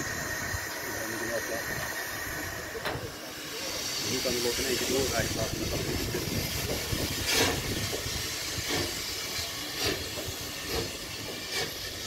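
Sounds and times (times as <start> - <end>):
steam hissing: 0.0 - 12.0
steam locomotive exhaust chuffs: 0.0 - 12.0.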